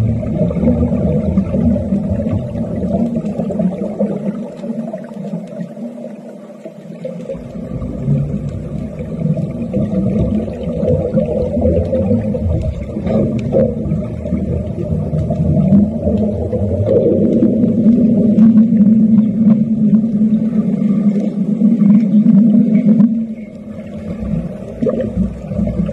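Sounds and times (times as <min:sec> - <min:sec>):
underwater welding crackling: 0:00.0 - 0:25.9.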